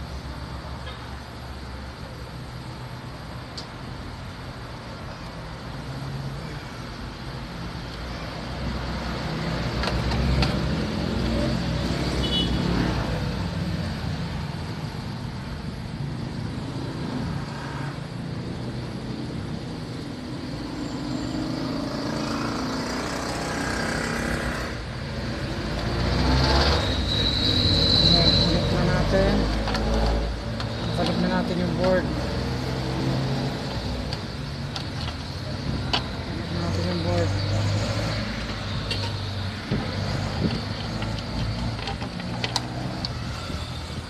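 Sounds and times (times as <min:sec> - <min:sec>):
vehicle engines rumbling: 0:00.0 - 0:44.0.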